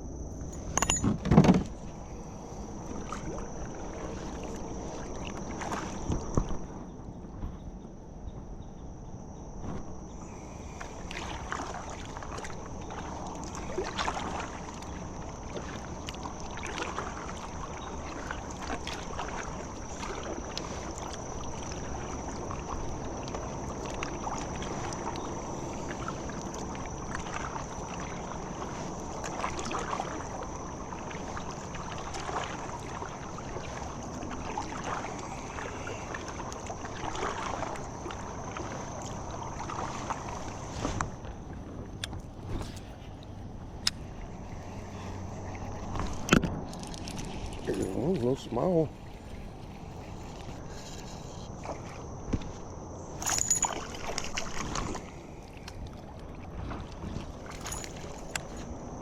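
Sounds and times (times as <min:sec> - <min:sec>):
high insect drone: 0:00.0 - 0:59.0
water sloshing around kayak: 0:00.0 - 0:59.0
light water splashes: 0:00.5 - 0:06.8, 0:09.6 - 0:59.0.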